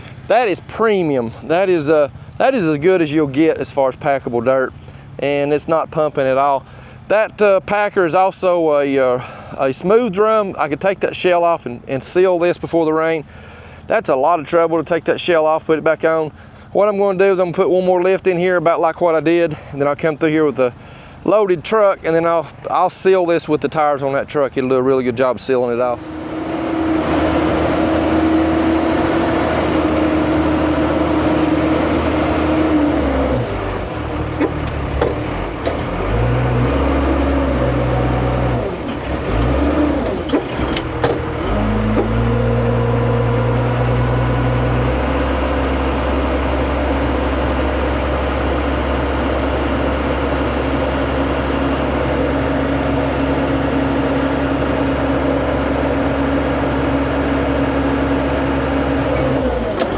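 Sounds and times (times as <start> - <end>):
heavy diesel engine drone: 0.0 - 16.8, 17.7 - 59.9.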